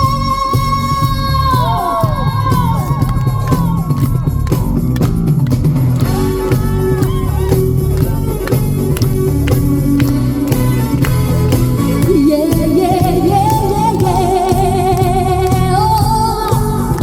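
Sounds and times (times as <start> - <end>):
drum beat: 0.0 - 17.0
heavy bass: 0.0 - 17.0
bending lead melody: 2.8 - 17.0.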